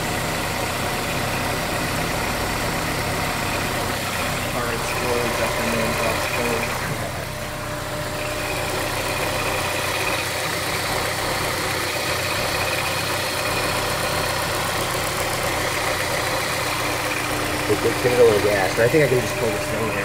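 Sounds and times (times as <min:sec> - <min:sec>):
car engine idling: 0:00.0 - 0:20.0
spinning drive belt and pulleys: 0:00.0 - 0:20.0.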